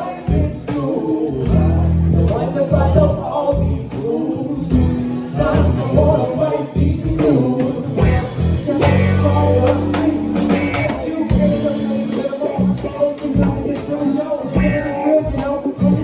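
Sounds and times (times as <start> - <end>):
bass notes: 0.0 - 14.0, 14.6 - 16.0
guitar: 0.0 - 16.0
person singing: 0.0 - 16.0.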